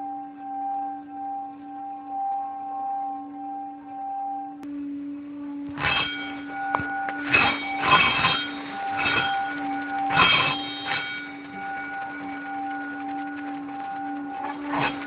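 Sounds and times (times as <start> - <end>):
ringing drone: 0.0 - 15.0.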